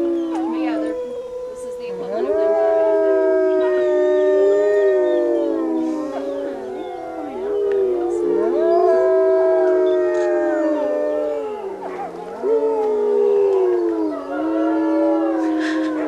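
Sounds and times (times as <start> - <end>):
wolves howling: 0.0 - 16.0.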